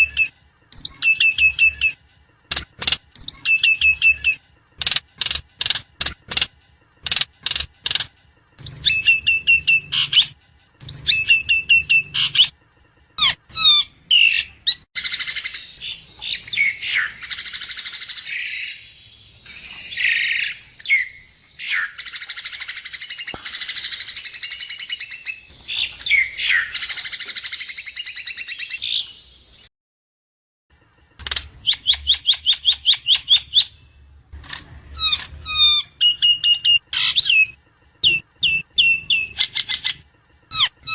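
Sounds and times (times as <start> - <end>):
bird song with sharp repeated notes: 0.0 - 29.7, 31.1 - 40.9.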